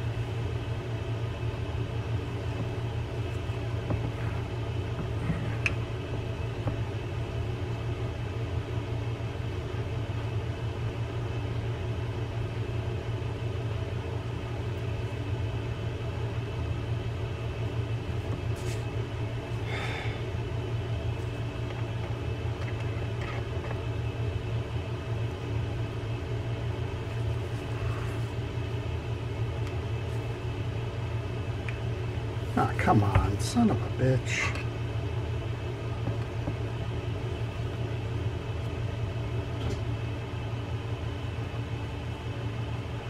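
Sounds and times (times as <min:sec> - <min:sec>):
steady mechanical hum: 0:00.0 - 0:43.0.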